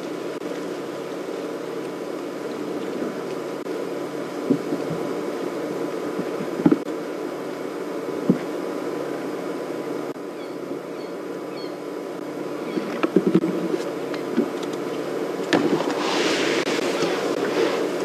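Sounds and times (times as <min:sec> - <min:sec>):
steady hum with faint hiss: 0:00.0 - 0:18.0.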